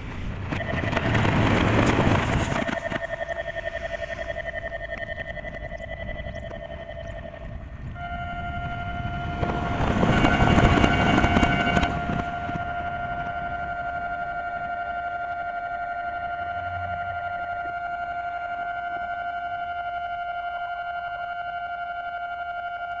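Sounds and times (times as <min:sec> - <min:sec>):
level crossing alarm dinging: 0:00.5 - 0:23.0.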